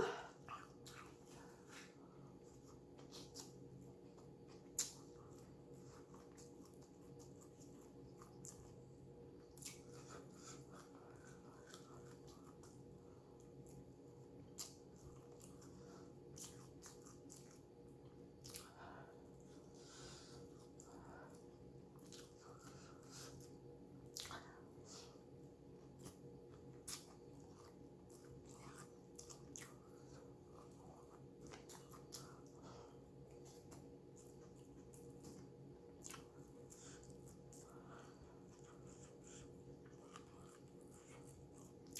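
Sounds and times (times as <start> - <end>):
person chewing food: 0.0 - 41.9
steady low hum: 0.0 - 41.9.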